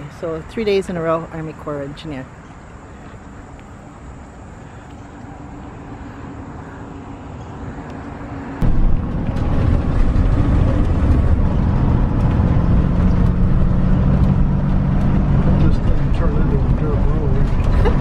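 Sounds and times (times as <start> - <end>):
outdoor background noise: 0.0 - 18.0
steady low hum: 0.0 - 18.0
vehicle road and engine rumble: 0.0 - 18.0.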